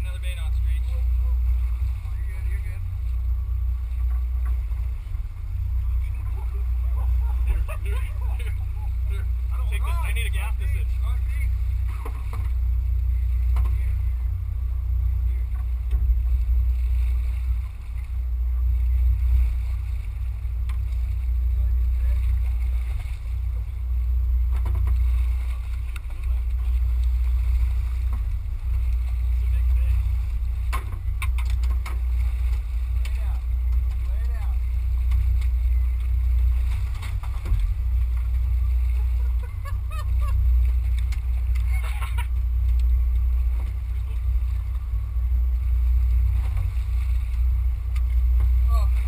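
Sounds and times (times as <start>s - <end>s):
boat engine rumble: 0.0s - 49.0s.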